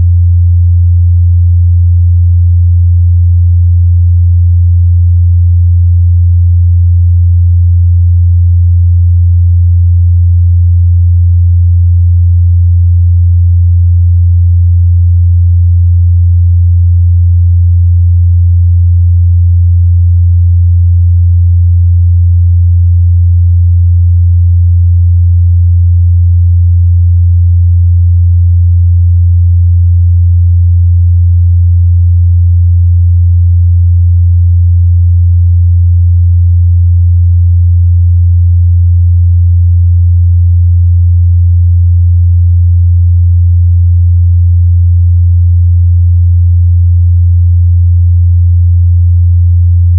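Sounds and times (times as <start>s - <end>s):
low sine test tone: 0.0s - 40.4s.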